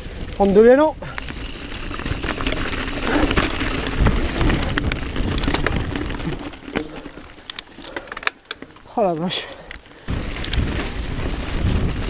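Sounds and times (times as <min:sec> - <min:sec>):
bike tyres on dirt and leaves: 0:00.0 - 0:12.0.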